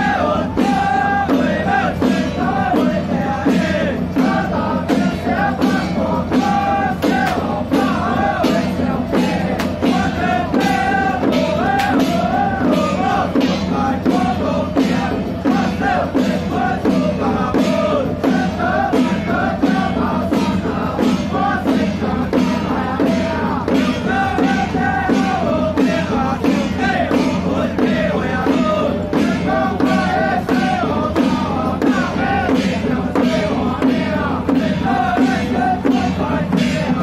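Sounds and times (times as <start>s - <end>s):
hand cymbals and drum beat: 0.0s - 37.0s.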